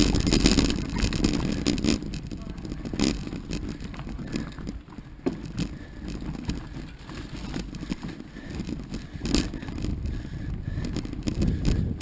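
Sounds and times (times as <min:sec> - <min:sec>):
bike knocking over bumps: 0:00.0 - 0:12.0
bike tyres rumbling on gravel: 0:00.0 - 0:12.0.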